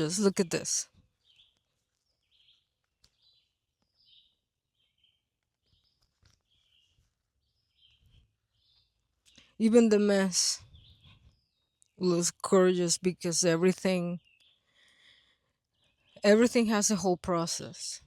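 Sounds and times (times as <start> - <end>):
bird chirping: 0.0 - 17.8.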